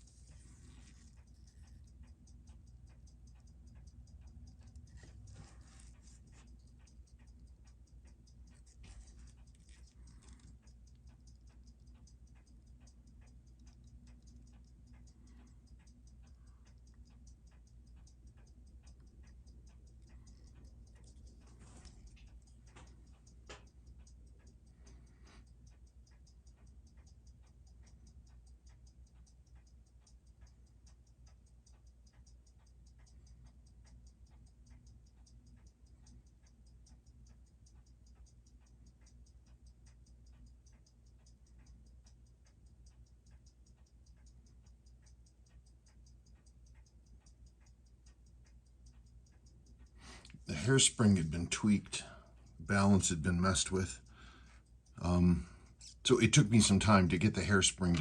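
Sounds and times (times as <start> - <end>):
watch ticking rapidly: 0.0 - 58.0.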